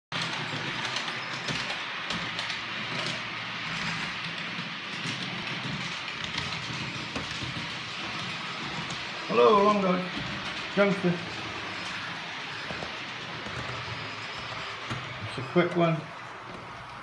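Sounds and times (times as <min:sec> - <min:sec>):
model trains whirring: 0:00.2 - 0:17.0.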